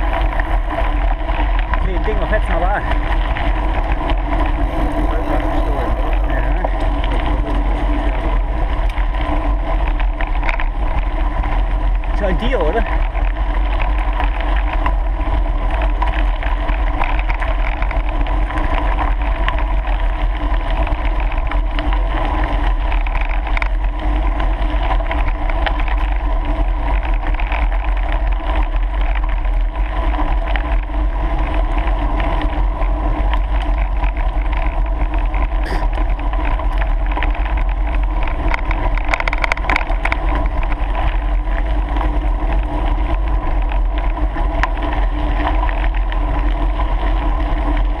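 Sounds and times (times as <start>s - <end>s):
bicycle tyres on gravel: 0.0s - 48.0s
wind buffeting microphone: 0.0s - 48.0s.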